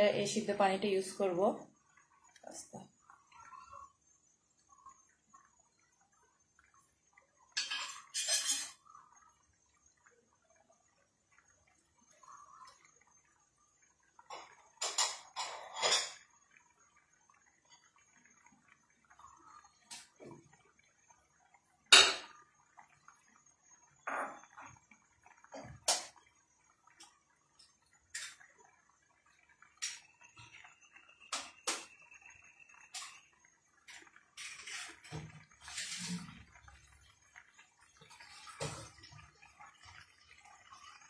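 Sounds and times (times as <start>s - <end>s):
boiling water popping and sputtering: 0.0s - 41.0s.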